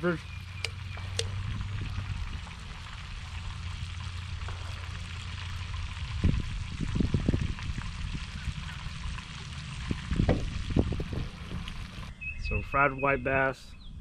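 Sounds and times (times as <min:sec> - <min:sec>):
flowing water hiss: 0:00.0 - 0:12.1.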